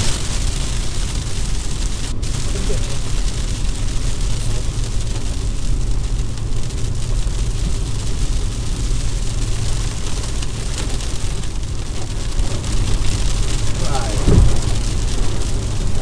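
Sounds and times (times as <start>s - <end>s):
car road rumble: 0.0s - 16.0s
tyres hissing on wet road: 0.0s - 16.0s.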